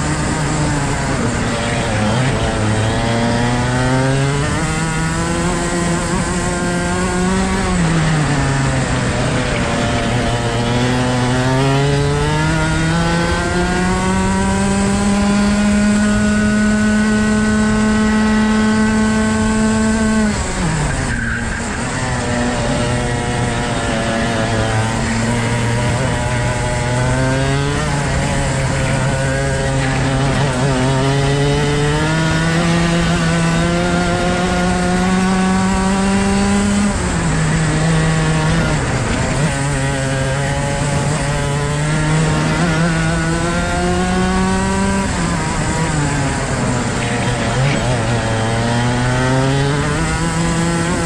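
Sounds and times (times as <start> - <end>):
kart engine revving: 0.0 - 51.0.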